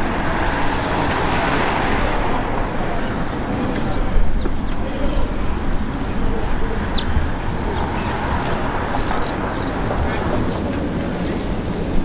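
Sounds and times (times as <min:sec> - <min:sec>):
birds chirping: 0:00.0 - 0:01.6, 0:02.4 - 0:12.0
street traffic rumble: 0:00.0 - 0:12.0.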